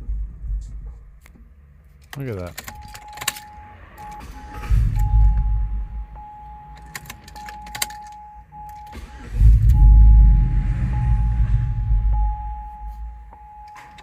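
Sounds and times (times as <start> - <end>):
engine surging and stumbling: 2.6 - 14.0.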